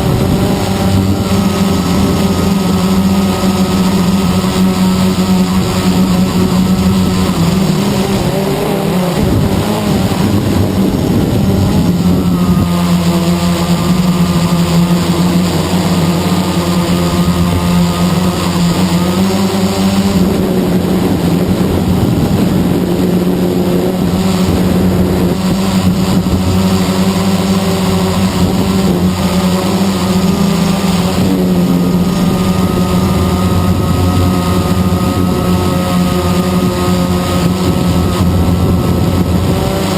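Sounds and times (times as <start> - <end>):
drone propellers humming: 0.0 - 39.9.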